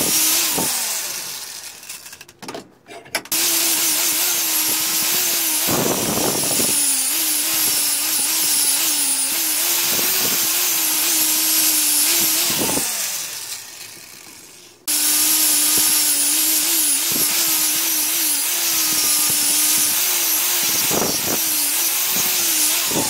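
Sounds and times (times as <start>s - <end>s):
angle grinder motor hum: 0.0s - 2.2s, 3.3s - 23.0s.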